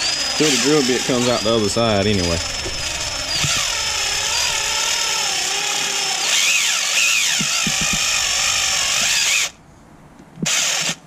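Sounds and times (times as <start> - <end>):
cordless drill motor running: 0.0 - 9.6, 10.4 - 11.0
drill bit squealing in metal: 0.0 - 9.6.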